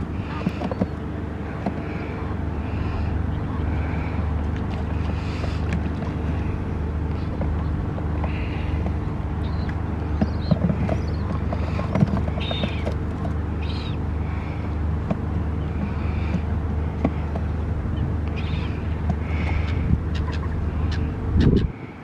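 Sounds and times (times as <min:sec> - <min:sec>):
gulls calling: 0:00.0 - 0:22.0
steady low rumble: 0:00.0 - 0:22.0.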